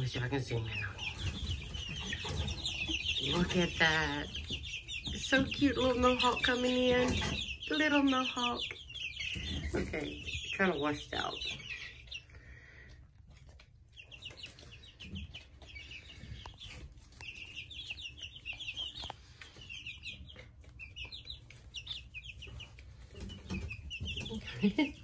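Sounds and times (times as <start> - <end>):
chicks and ducklings peeping: 0.0 - 25.0.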